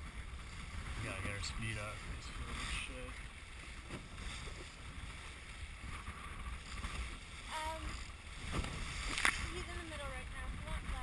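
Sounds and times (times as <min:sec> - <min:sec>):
water rushing along hull: 0:00.0 - 0:11.0
wind rumble on microphone: 0:00.0 - 0:11.0.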